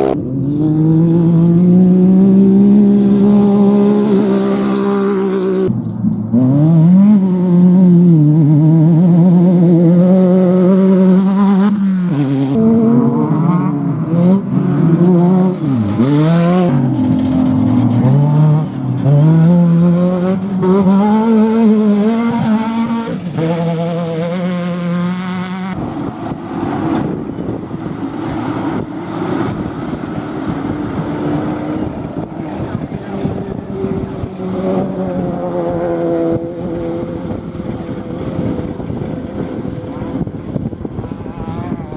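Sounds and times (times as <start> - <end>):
race vehicle engines revving: 0.0 - 41.9.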